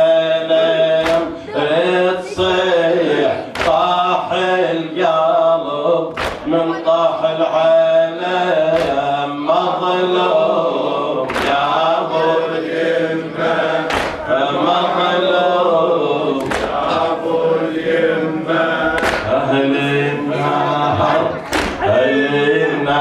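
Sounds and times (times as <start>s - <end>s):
men chanting: 0.0s - 23.0s.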